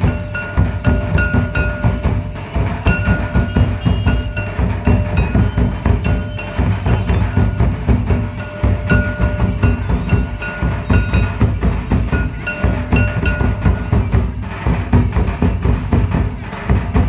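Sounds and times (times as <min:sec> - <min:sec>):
barrel drums beaten with sticks: 0:00.0 - 0:17.0.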